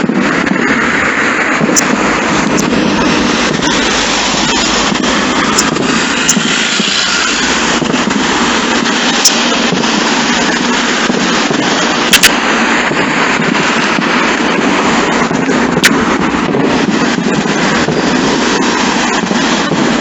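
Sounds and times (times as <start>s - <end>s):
fireworks crackling barrage: 0.0s - 20.0s
sharp firework cracks: 0.0s - 20.0s.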